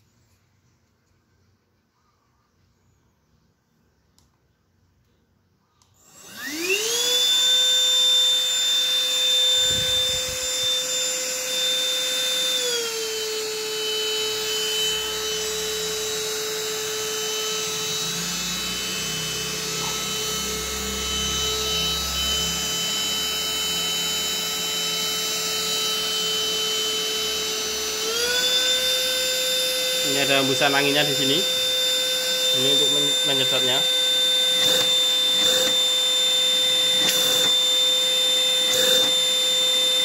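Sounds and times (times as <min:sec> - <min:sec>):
handheld vacuum cleaner whine: 0:05.8 - 0:40.0.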